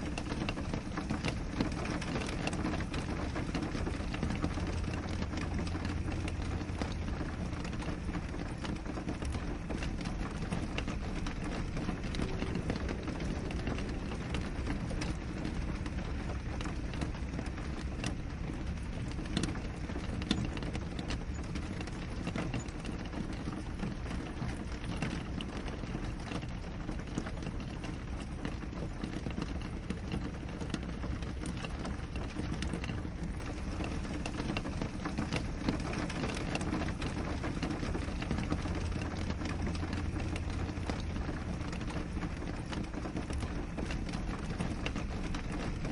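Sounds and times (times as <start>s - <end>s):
rain on a window: 0.0s - 45.9s.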